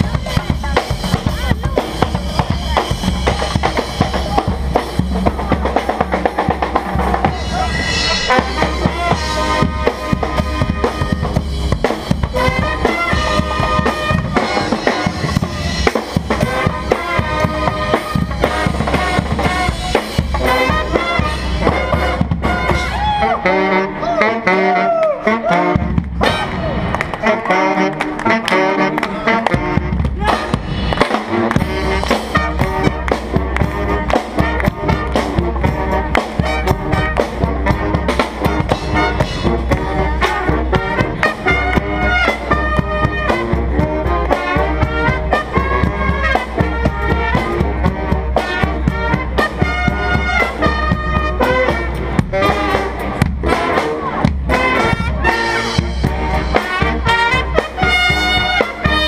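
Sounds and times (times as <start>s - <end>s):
drum beat: 0.0s - 23.3s, 28.8s - 59.0s
brass band playing jazz: 0.0s - 59.0s.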